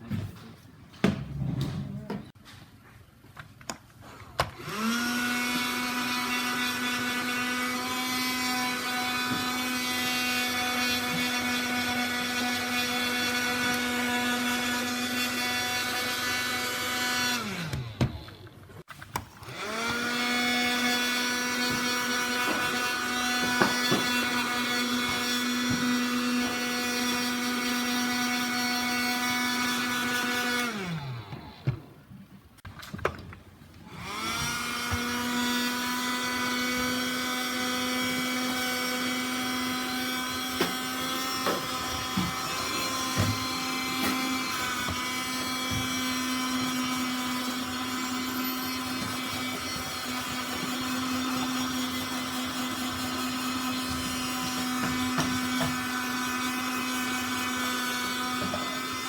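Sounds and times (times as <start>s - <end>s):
vacuum cleaner motor whining: 4.4s - 32.0s, 33.8s - 59.0s.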